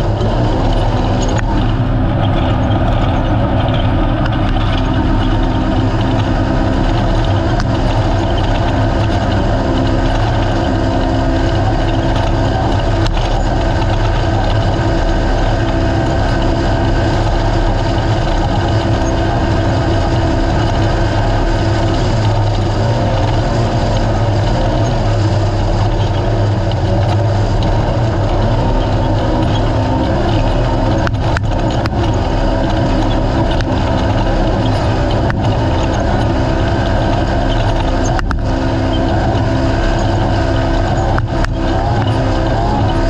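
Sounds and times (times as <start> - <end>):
ground noise: 0.0 - 43.0
vehicle engine running: 0.0 - 43.0.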